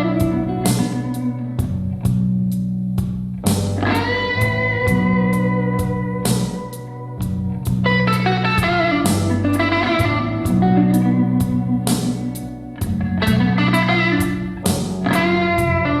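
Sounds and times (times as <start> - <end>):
blues guitar music with bass: 0.0 - 16.0.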